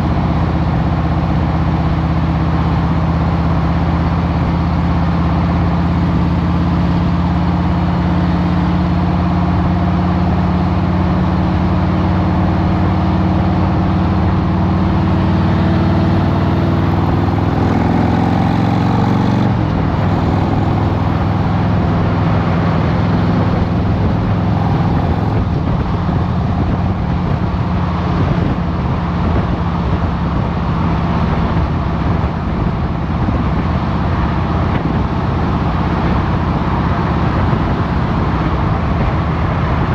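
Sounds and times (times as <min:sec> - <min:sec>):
motorcycle engine running: 0:00.0 - 0:39.1
road and wind noise: 0:00.0 - 0:39.9.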